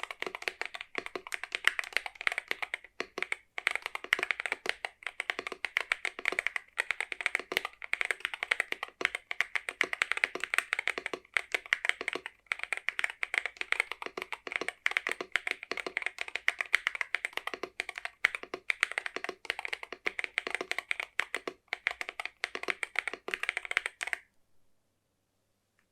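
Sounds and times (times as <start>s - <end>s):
fast typing on mechanical keyboard: 0.0s - 24.2s.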